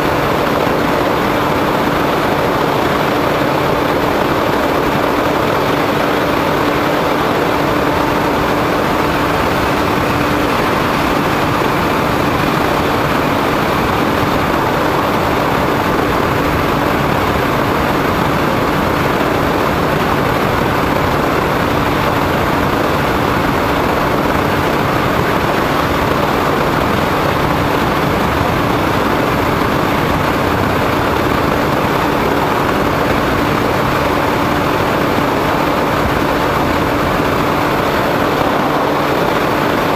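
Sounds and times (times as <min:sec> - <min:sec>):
model plane motor and propeller drone: 0:00.0 - 0:39.9
wind rushing over camera: 0:00.0 - 0:39.9.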